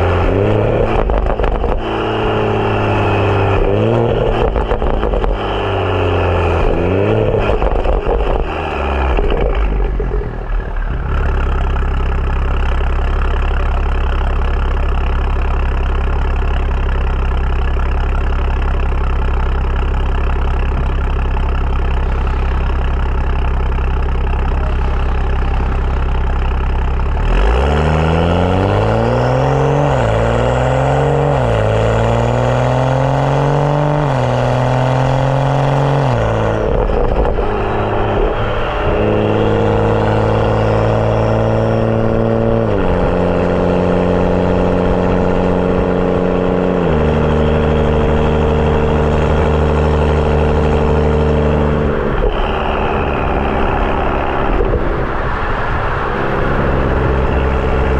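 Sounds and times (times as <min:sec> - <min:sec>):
car engine revving and shifting: 0:00.0 - 0:13.8, 0:24.3 - 0:57.9.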